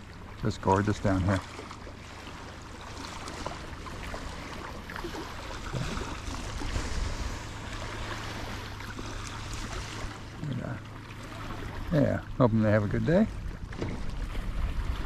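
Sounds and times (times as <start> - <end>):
lapping water: 0.0 - 15.0
outboard motor idling: 0.0 - 15.0.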